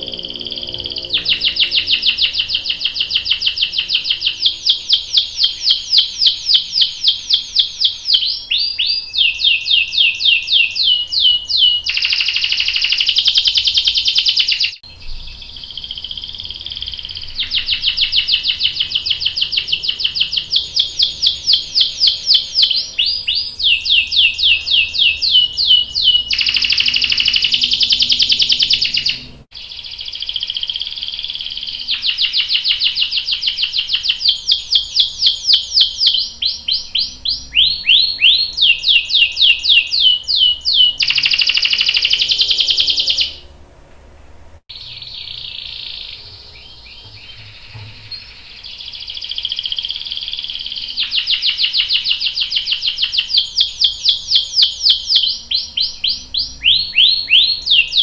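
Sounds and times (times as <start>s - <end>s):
canary singing trills: 0.0s - 43.6s, 44.7s - 58.0s.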